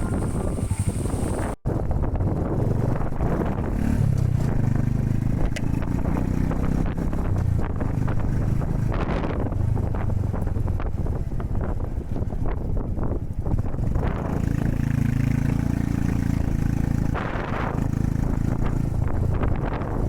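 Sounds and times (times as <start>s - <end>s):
motorcycle engine running: 0.0s - 20.0s
wind on microphone: 0.0s - 20.0s.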